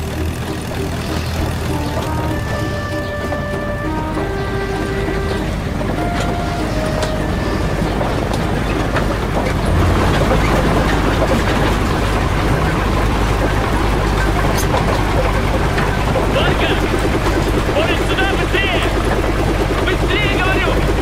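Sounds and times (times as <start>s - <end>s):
held music notes: 0.0s - 21.0s
vehicle engine rumble: 0.0s - 21.0s.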